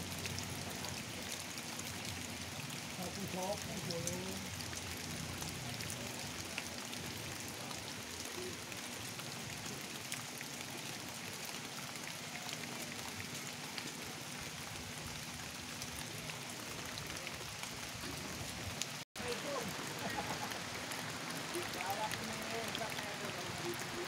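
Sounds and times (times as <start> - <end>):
rain falling on a pond: 0.0 - 24.0.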